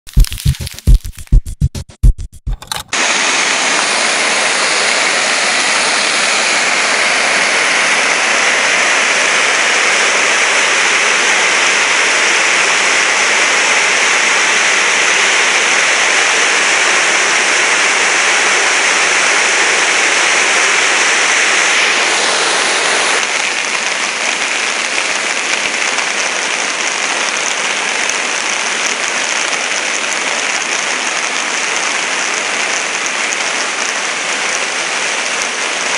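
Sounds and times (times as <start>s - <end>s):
floodwater rushing: 2.9s - 35.9s.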